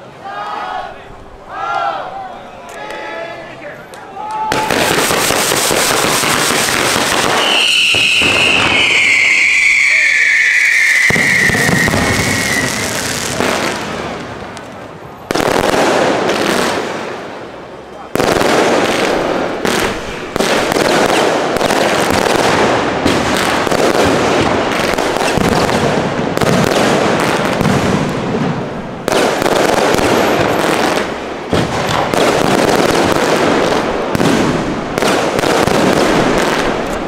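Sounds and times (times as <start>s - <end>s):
fireworks bursting and crackling: 3.9s - 37.0s.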